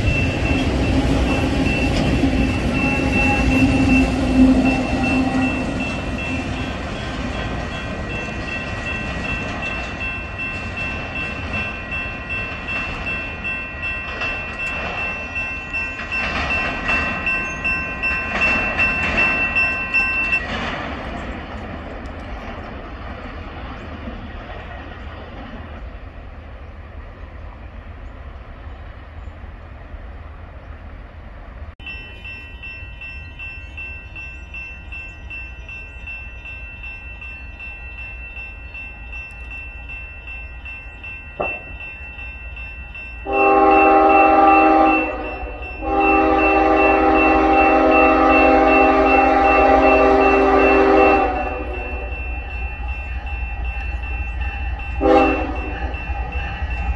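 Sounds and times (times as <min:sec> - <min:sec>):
railroad crossing bell ringing: 0:00.0 - 0:22.5, 0:31.8 - 0:56.9
freight train rolling past: 0:00.0 - 0:56.9.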